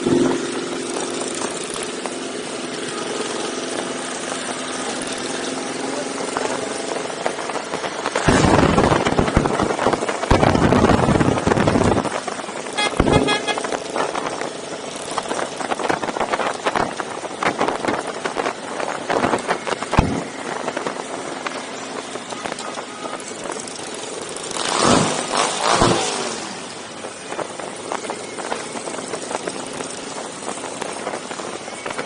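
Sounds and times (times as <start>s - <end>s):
motorcycle engines running: 0.0s - 32.0s.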